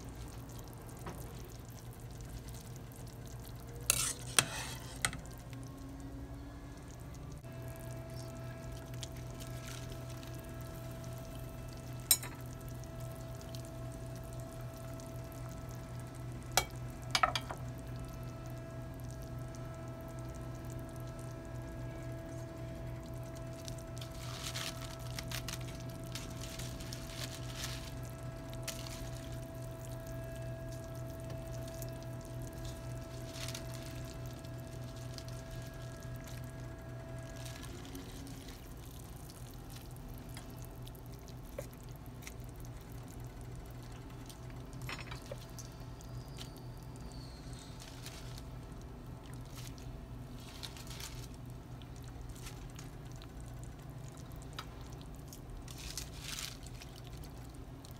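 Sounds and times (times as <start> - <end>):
soup bubbling and popping: 0.0 - 26.8, 28.0 - 50.4, 51.3 - 55.7, 56.6 - 57.9
steady low hum: 0.0 - 57.9.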